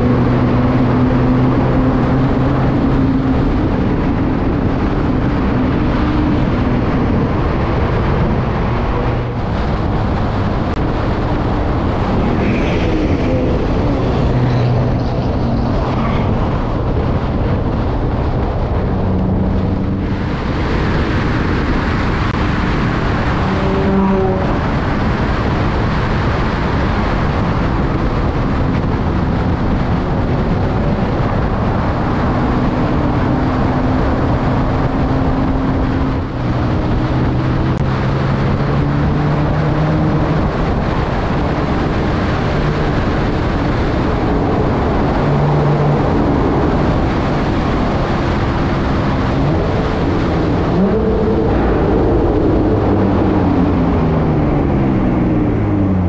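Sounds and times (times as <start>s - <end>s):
car engine running at speed: 0.0s - 56.0s
wind noise: 0.0s - 56.0s.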